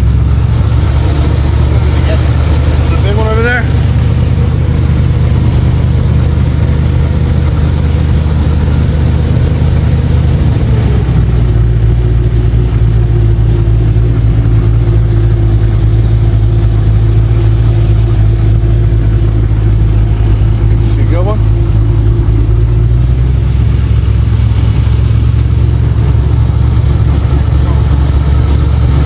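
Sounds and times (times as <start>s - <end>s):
boat motor running: 0.0s - 29.0s.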